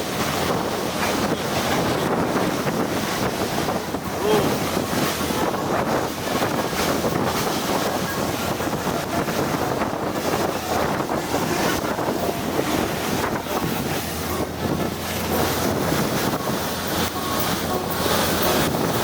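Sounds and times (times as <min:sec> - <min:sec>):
water rushing past boat: 0:00.0 - 0:19.0
wind buffeting microphone: 0:00.0 - 0:19.0.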